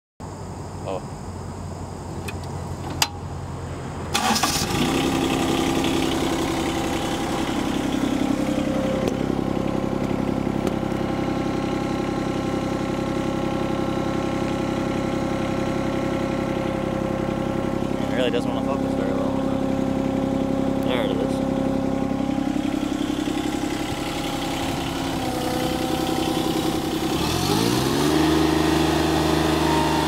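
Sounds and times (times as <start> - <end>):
diesel engine cranking and idling: 0.2 - 30.0.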